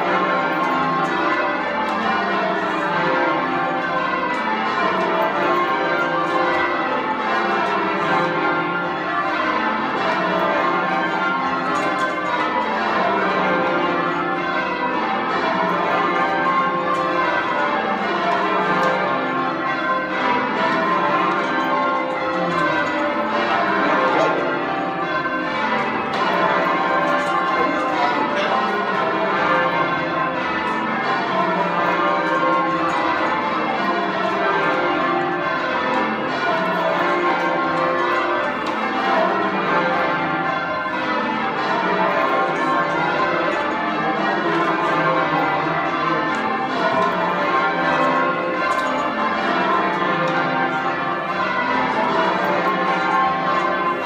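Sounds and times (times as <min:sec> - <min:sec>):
church bells ringing in rounds: 0:00.0 - 0:54.0.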